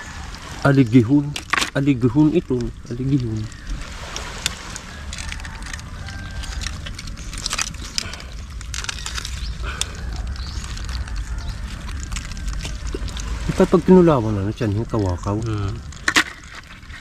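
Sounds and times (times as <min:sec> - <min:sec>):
shells and gear clicking and scraping: 0:01.3 - 0:17.0.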